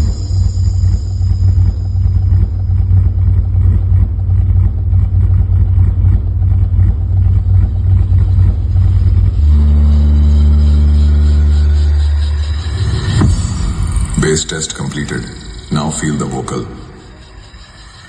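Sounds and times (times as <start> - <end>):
throbbing deep bass: 0.0 - 17.9
held low bass tone: 0.0 - 18.0.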